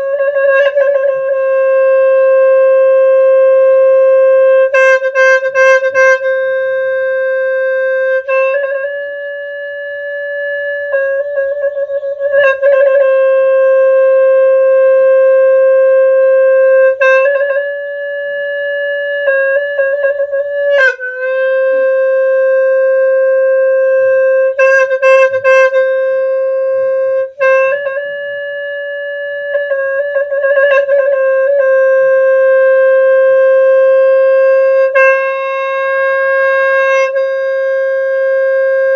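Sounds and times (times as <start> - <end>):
horn playing long held notes: 0.0 - 38.9.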